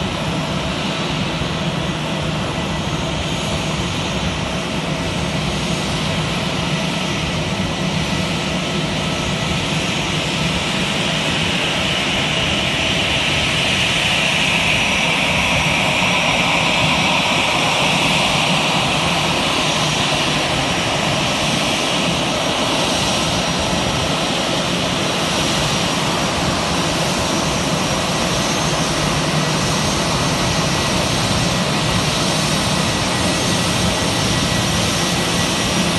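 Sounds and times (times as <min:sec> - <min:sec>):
jet engines rushing with high whine: 0:00.0 - 0:35.9.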